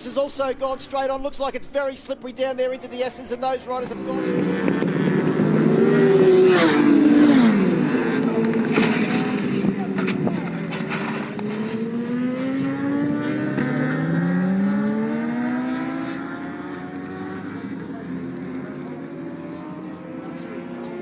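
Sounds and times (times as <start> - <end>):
racing motorcycle engines revving: 3.0 - 21.0.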